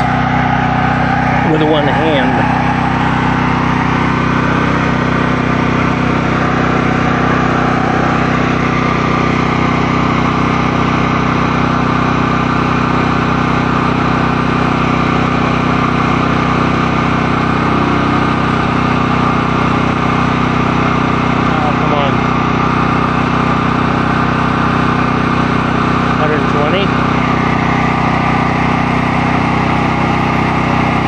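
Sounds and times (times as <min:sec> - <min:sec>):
generator engine running: 0:00.0 - 0:31.0.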